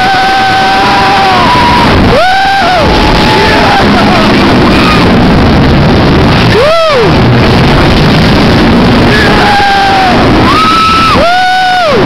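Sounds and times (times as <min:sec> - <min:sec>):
roller coaster track noise: 0:00.0 - 0:12.0
wind rushing: 0:00.0 - 0:12.0.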